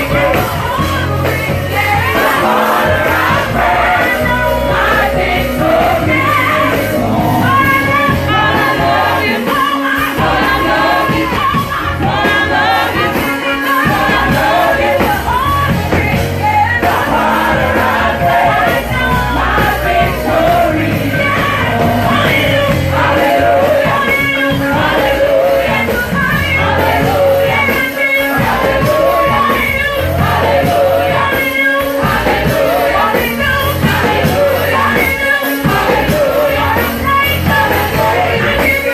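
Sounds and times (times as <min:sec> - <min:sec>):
gospel worship music with band: 0:00.0 - 0:38.9
lead and group vocals singing: 0:00.0 - 0:38.9.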